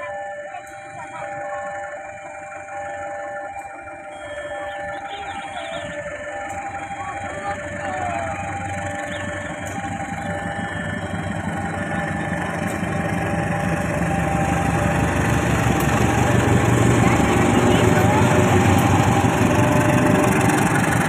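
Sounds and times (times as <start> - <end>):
diesel locomotive engine rumbling: 0.0 - 21.0.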